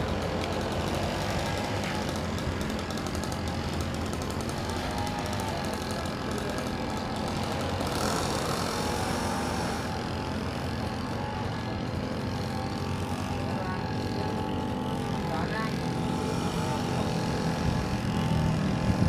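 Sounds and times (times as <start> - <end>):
toy airplane motor whine: 0.0 - 19.0.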